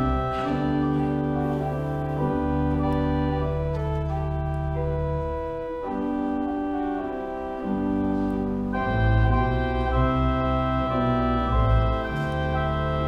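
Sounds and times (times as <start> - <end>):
organ chords: 0.0 - 13.0.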